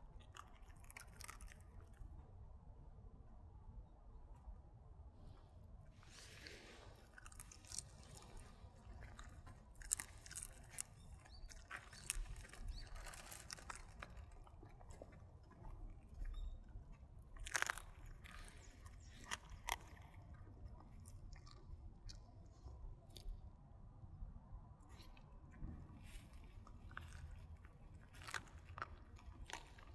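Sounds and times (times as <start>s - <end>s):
dog crunching a bone: 0.0s - 2.2s, 6.1s - 23.4s, 24.9s - 29.9s.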